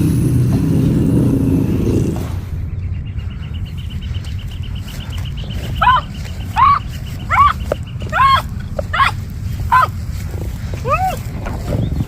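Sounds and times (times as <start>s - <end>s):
vehicle engine: 0.0s - 12.0s.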